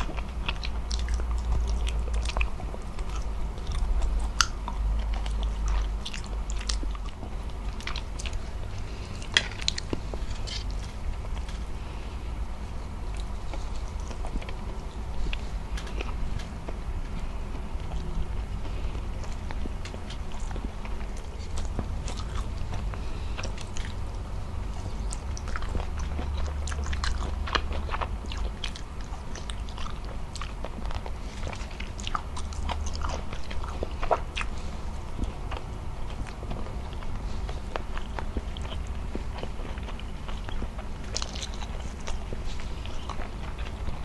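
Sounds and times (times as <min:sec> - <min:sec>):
wet chewing and lip-smacking: 0:00.0 - 0:12.0, 0:12.8 - 0:44.0
low steady hum: 0:00.0 - 0:44.0.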